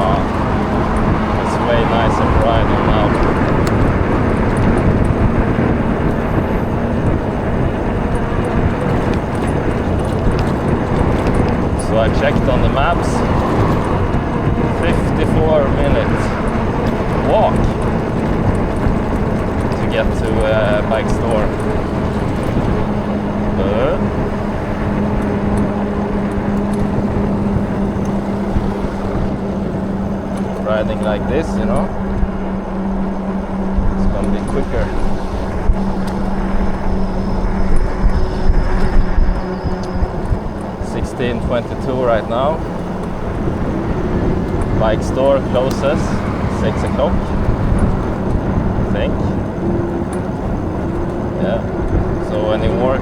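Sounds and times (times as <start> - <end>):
e-bike motor hum: 0.0 - 53.0
road and tyre noise: 0.0 - 53.0
wind rush on microphone: 0.0 - 53.0.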